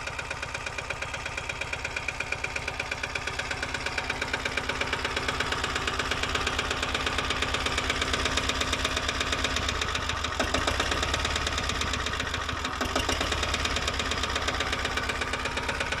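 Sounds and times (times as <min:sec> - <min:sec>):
diesel engine knocking: 0:00.0 - 0:16.0.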